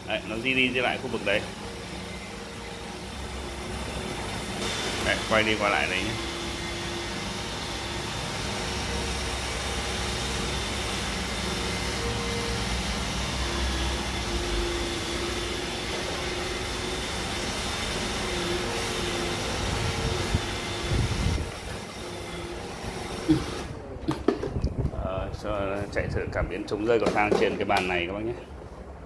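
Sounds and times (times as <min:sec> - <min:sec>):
faint motor whine: 0:00.0 - 0:24.0
robot vacuum whirring: 0:00.4 - 0:23.8.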